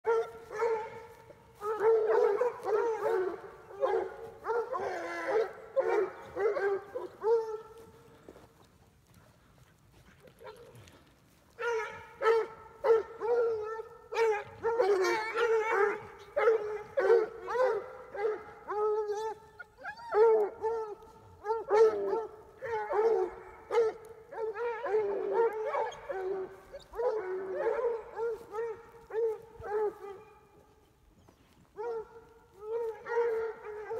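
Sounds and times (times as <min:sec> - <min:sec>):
hounds baying: 0:00.0 - 0:33.9.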